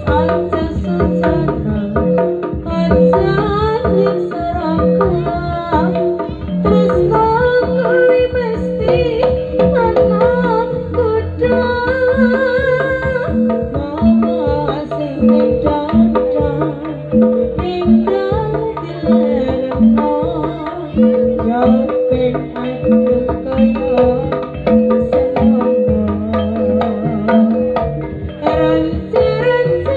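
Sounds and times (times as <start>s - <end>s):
hand drums beating: 0.0s - 29.9s
wavering high melody: 0.0s - 29.9s.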